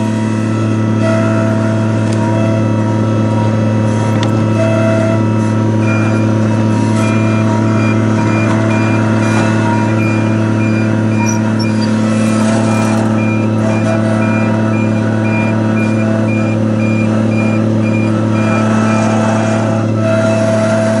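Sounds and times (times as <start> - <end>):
diesel engine running: 0.0 - 21.0
reversing alarm beeping: 0.0 - 21.0.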